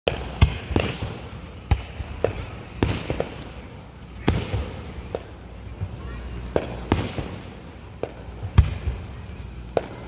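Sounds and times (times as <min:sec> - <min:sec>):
fireworks bangs: 0:00.1 - 0:10.0.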